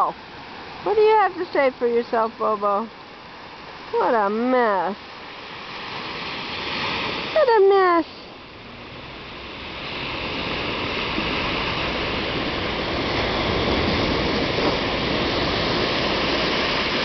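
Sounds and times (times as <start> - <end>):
surf on beach: 0.0 - 17.0
wind: 0.0 - 17.0.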